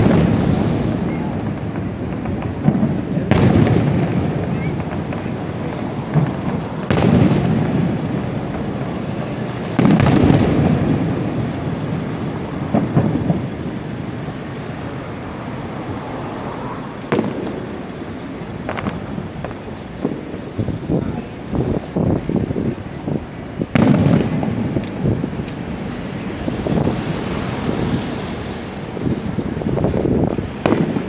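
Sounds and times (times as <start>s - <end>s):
distant fireworks bursting: 0.0s - 31.0s.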